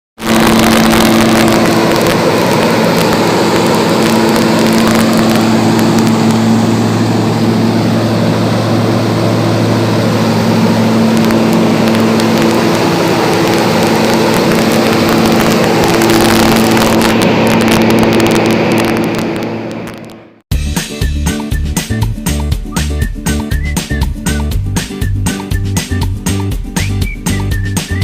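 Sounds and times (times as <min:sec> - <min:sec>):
ventilator fan rushing air: 0:00.2 - 0:28.0.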